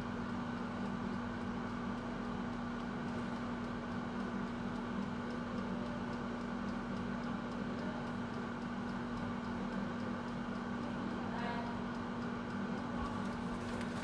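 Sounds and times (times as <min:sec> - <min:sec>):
air fryer humming: 0:00.0 - 0:14.0
faint regular ticking: 0:00.0 - 0:14.0.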